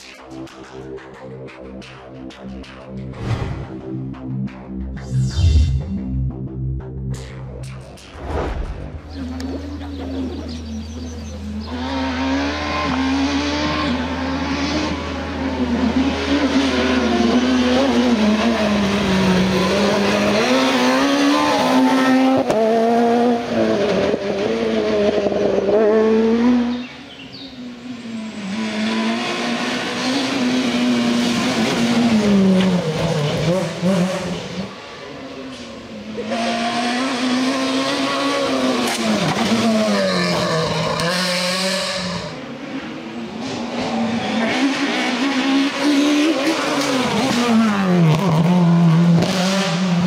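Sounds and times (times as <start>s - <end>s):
rally car engine at full throttle: 0.0s - 50.0s.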